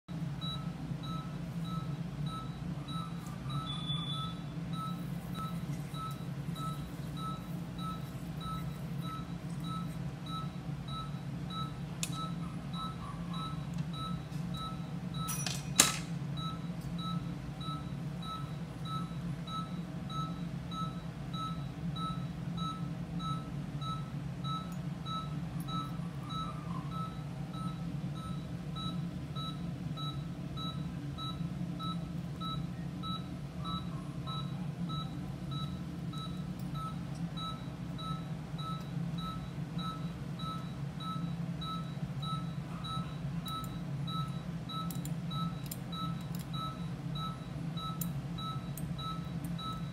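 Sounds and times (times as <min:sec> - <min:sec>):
patient monitor beeping: 0:00.1 - 0:15.5, 0:16.4 - 0:49.9.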